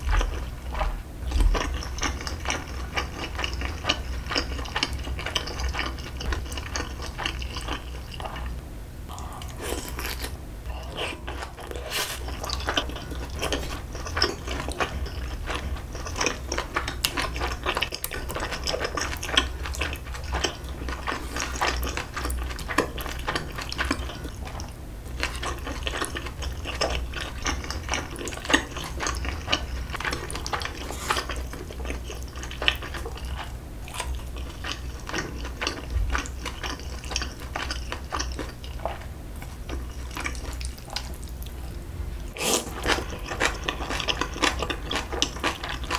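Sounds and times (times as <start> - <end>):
person chewing and slurping noodles: 0.0 - 45.9.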